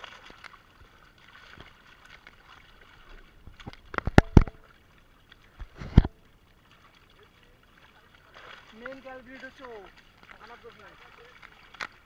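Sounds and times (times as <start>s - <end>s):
fish splashing in water: 0.0s - 12.0s.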